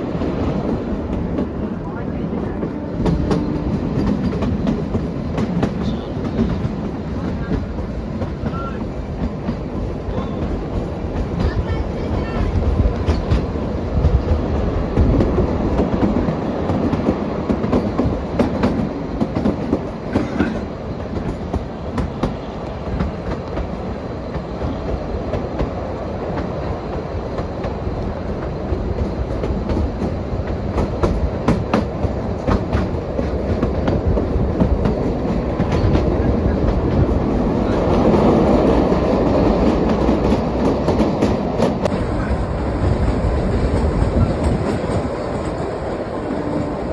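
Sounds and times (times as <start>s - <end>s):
train wheel clicks and clacks: 0.0s - 46.9s
train wheels rumbling on track: 0.0s - 46.9s.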